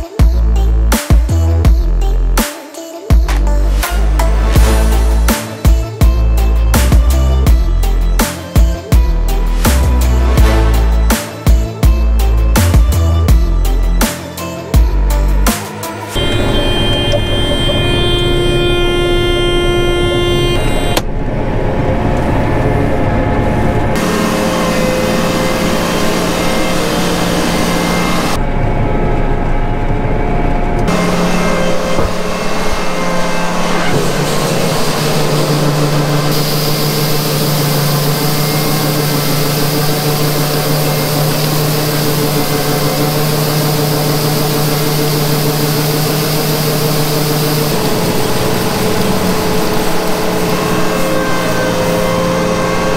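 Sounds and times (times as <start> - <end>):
combine harvester running: 3.7 - 52.9.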